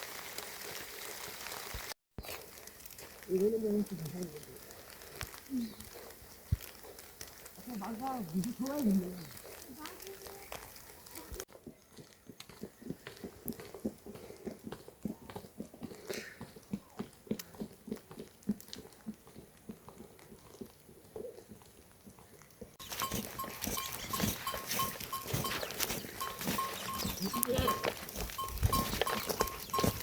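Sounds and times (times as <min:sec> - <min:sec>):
livestock chewing fodder: 0:00.3 - 0:30.0.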